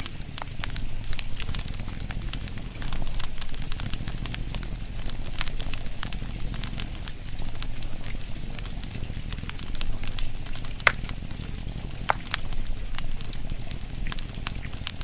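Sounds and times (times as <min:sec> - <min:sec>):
crackling pops and snaps: 0:00.0 - 0:15.0
low steady rumble: 0:00.0 - 0:15.0.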